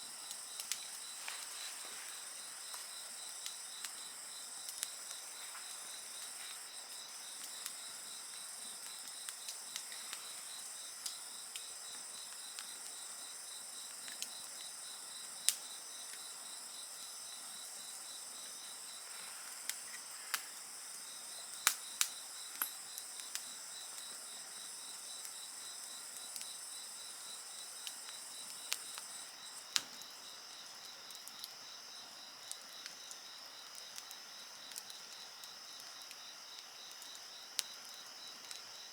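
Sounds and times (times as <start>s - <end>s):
wood fire crackling: 0.0s - 31.5s
crickets and night insects calling: 0.0s - 38.9s.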